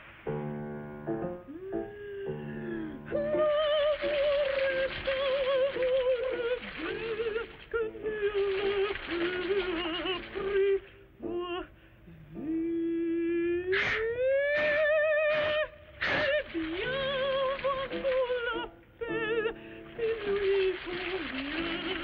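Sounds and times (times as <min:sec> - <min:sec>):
faint accompaniment: 0:00.0 - 0:22.0
soprano singing operatically: 0:01.5 - 0:22.0.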